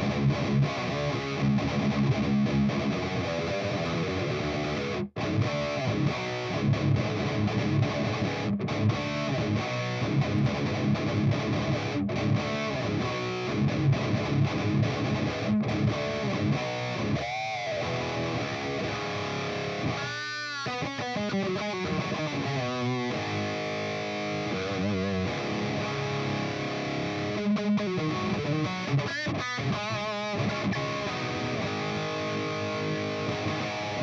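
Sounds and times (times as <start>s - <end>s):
distorted electric guitar riffing: 0.0s - 34.0s.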